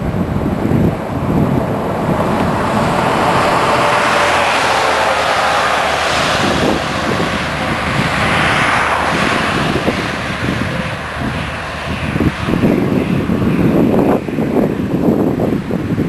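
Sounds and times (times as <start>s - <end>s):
highway traffic rushing: 0.0s - 16.0s
wind buffeting microphone: 0.0s - 16.0s.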